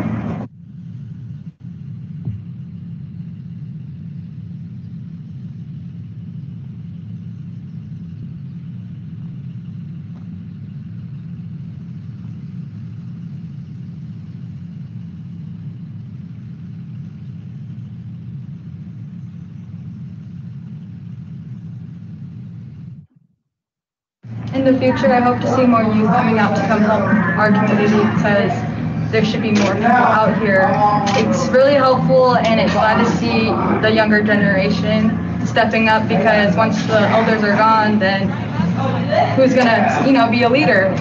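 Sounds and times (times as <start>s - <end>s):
low rumble of road vehicles: 0.0s - 23.3s, 24.2s - 41.0s.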